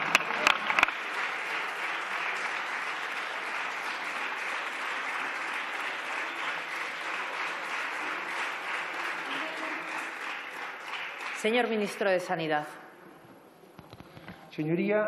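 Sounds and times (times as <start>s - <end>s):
people applauding: 0.0s - 12.5s.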